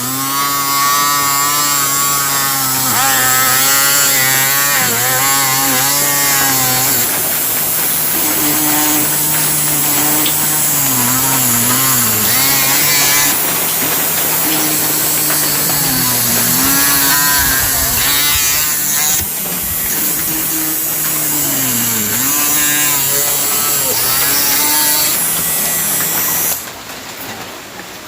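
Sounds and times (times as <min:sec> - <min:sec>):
mini drill motor whirring: 0:00.0 - 0:26.8.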